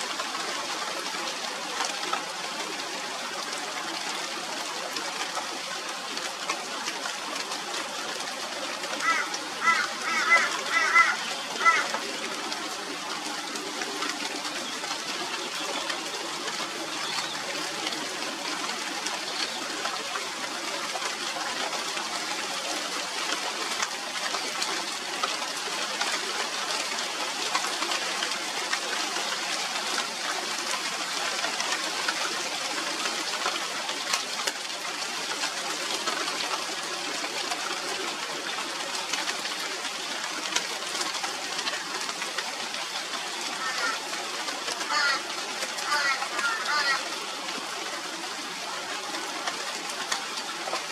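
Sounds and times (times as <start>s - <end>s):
rain falling on leaves: 0.0s - 50.9s.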